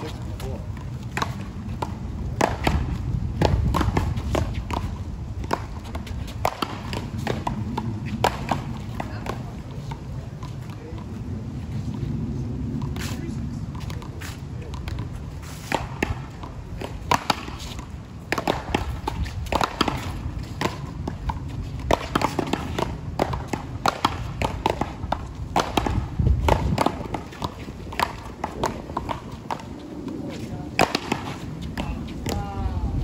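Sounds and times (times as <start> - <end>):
low steady rumble: 0.0 - 33.0.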